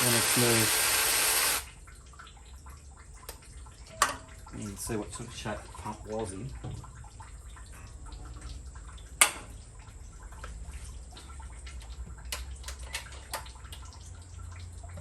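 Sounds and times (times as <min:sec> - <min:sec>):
coolant draining and dripping: 0:00.0 - 0:15.0.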